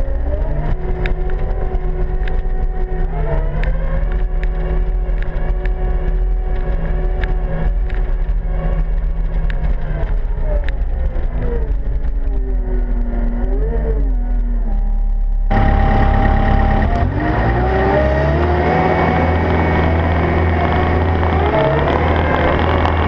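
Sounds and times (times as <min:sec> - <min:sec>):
diesel engine whining: 0:00.0 - 0:23.0
track noise: 0:00.0 - 0:23.0.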